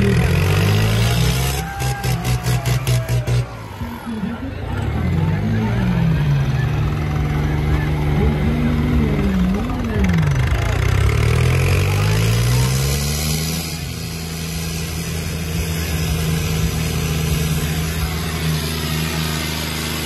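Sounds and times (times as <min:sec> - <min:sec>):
tractor diesel engines under load: 0:00.0 - 0:20.0.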